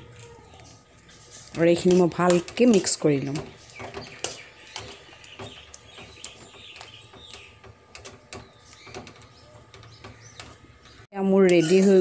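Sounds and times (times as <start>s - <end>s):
metal spoon scraping a pan: 0.7s - 12.0s.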